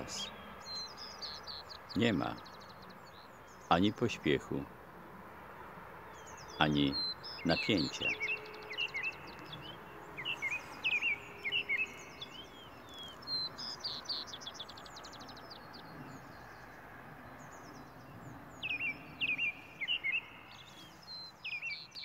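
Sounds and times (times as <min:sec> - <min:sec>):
outdoor background hiss: 0:00.0 - 0:22.0
songbirds chirping: 0:00.0 - 0:22.0.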